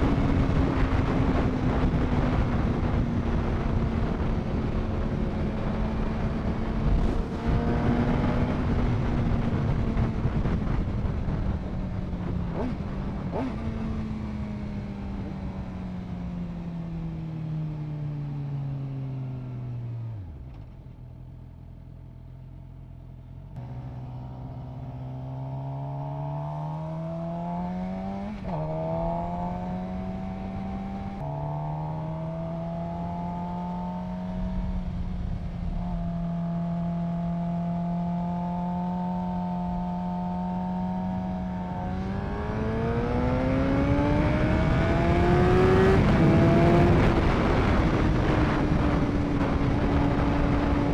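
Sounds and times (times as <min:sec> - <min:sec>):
motorcycle engine revving: 0:00.0 - 0:16.7, 0:22.4 - 0:50.9.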